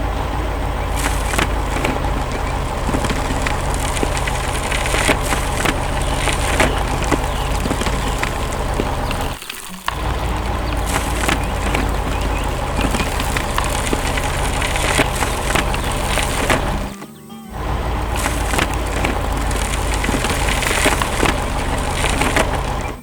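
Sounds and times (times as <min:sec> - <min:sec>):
dense crunching and cracking: 0:00.0 - 0:23.0
steady low rumble: 0:00.0 - 0:23.0.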